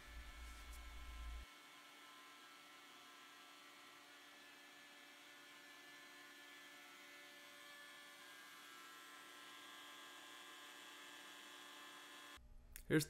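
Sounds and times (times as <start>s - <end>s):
router whine cutting wood: 0.0s - 12.4s.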